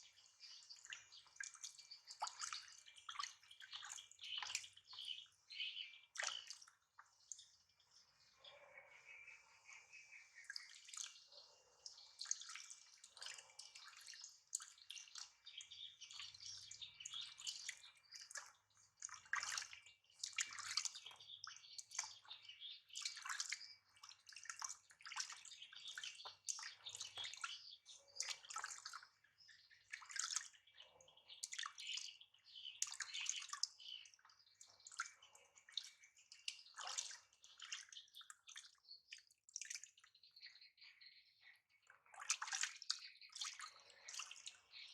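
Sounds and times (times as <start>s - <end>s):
water splashing and pouring: 0.0s - 5.5s, 6.1s - 7.6s, 10.3s - 29.2s, 29.8s - 30.7s, 32.8s - 40.1s, 42.0s - 44.9s.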